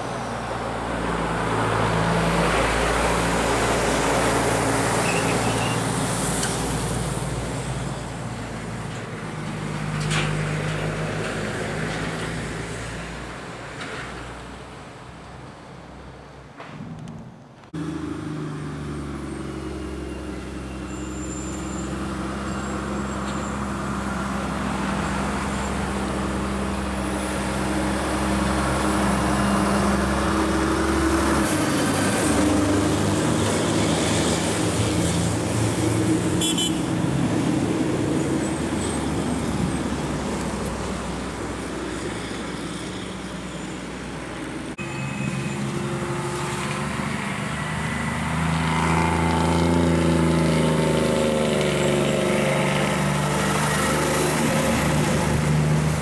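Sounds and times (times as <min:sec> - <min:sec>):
diesel trucks passing: 0:00.0 - 0:56.0.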